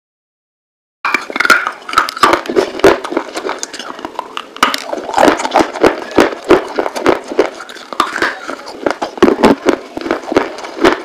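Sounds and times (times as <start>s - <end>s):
crunching clay pot pieces: 1.1s - 11.0s.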